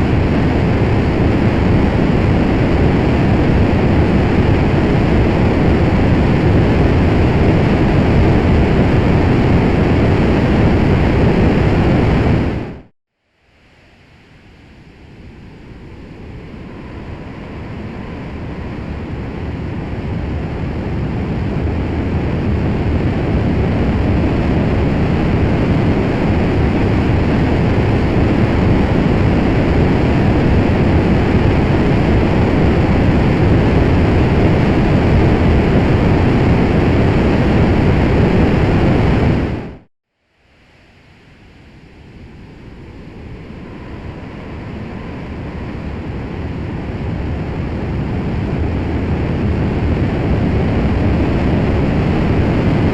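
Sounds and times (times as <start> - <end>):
rocket engine roar: 0.0 - 12.9, 13.7 - 39.9, 41.0 - 52.9
low rush of noise: 0.0 - 52.9.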